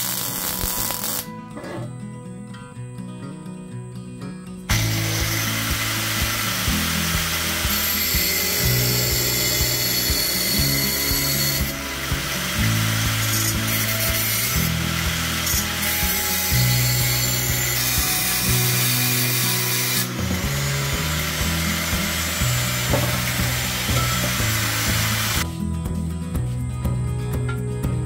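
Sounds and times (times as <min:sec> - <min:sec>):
angle grinder cutting metal pipe: 0:00.0 - 0:01.9, 0:04.7 - 0:25.5
background music: 0:00.0 - 0:28.0.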